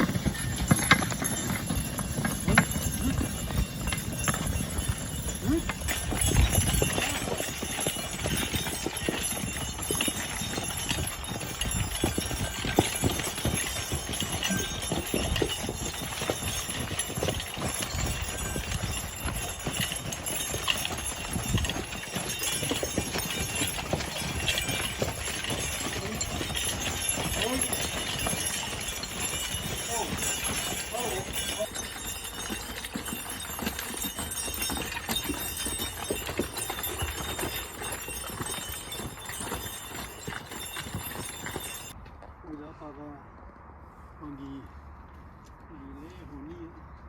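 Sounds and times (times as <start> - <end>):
horse hooves thudding: 0.0 - 42.4.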